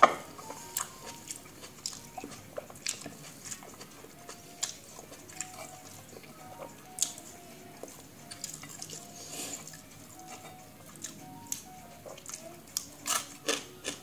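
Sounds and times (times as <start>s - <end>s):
chewing and mouth smacks: 0.8s - 7.2s, 7.8s - 14.0s.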